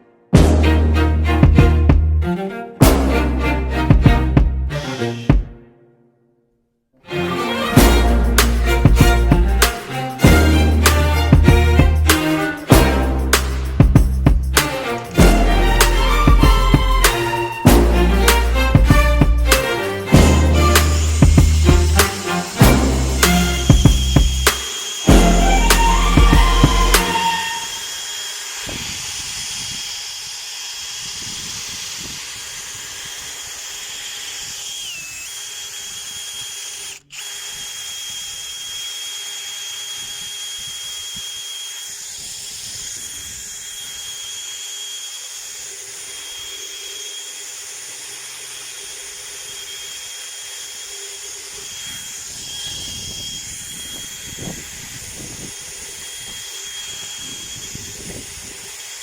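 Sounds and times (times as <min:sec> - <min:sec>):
electric drill whirring: 0:03.8 - 0:05.5, 0:07.1 - 0:59.0.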